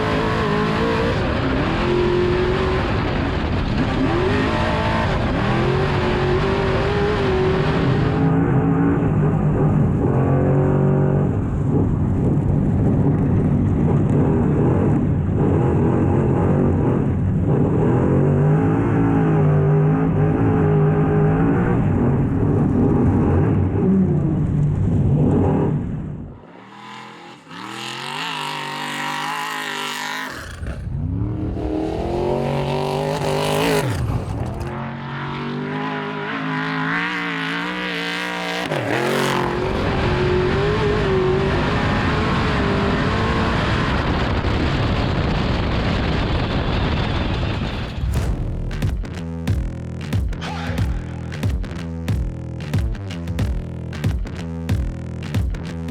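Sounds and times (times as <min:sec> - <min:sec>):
race truck engine revving: 0:00.0 - 0:11.9, 0:13.8 - 0:44.6, 0:46.8 - 0:55.9.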